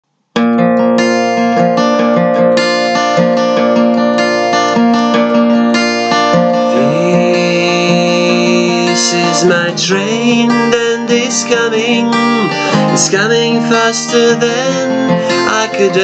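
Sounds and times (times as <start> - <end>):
acoustic guitar chords: 0.1 - 16.0.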